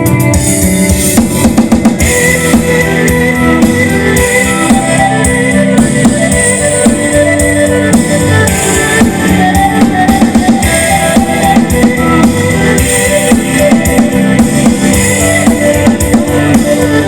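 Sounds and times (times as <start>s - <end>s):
band playing instrumental music: 0.0s - 17.0s
drum kit beat: 0.0s - 17.0s
guitar: 0.0s - 17.0s.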